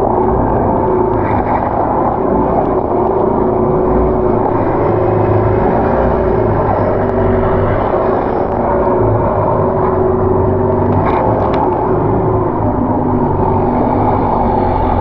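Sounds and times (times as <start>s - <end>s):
boat engine droning: 0.0s - 15.0s
water noise: 0.0s - 15.0s
wind: 0.0s - 15.0s.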